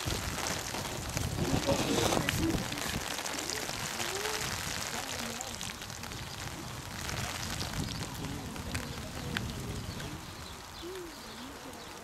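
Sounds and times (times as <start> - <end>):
rain patter: 0.0 - 12.0
distant murmuring voices: 0.2 - 12.0.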